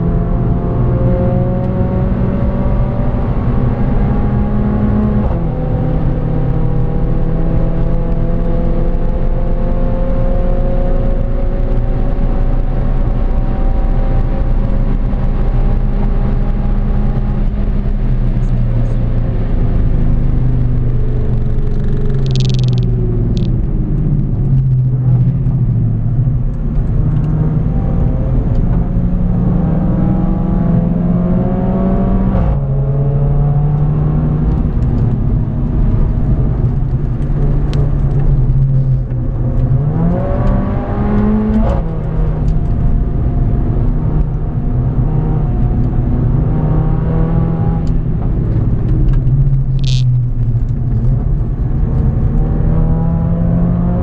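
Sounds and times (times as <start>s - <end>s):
car engine accelerating: 0.0s - 54.0s
road and wind rumble: 0.0s - 54.0s.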